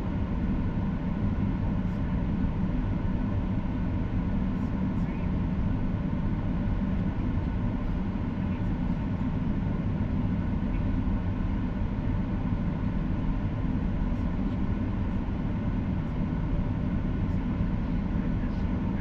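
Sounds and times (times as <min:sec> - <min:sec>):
airplane cabin roar: 0:00.0 - 0:19.0.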